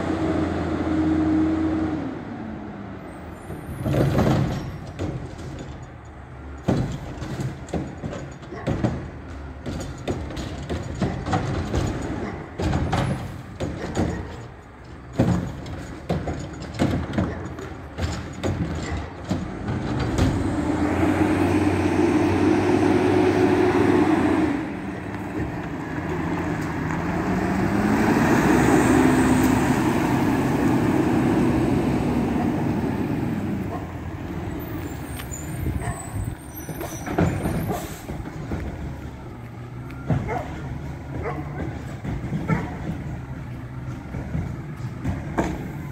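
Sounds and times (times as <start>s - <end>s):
garbage truck diesel engine: 0.0s - 45.9s.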